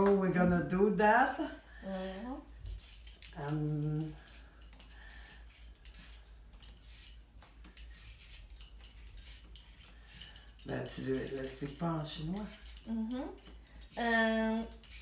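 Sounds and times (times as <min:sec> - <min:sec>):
peelers scraping potato skins: 0:00.0 - 0:15.0.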